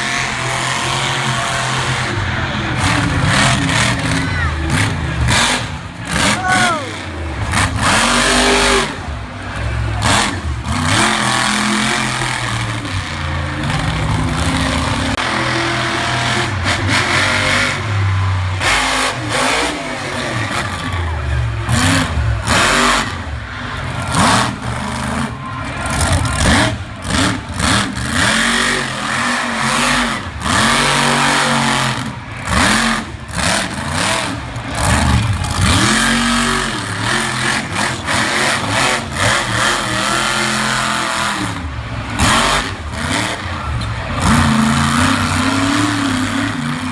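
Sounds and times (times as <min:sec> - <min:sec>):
monster truck engine revving: 0:00.0 - 0:46.9.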